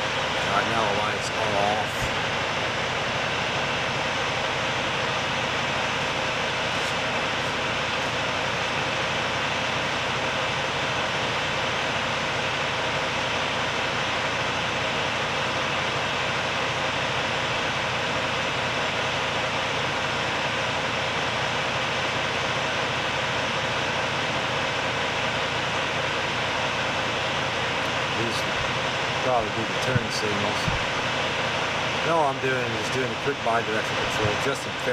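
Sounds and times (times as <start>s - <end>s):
machinery drone: 0.0s - 34.9s.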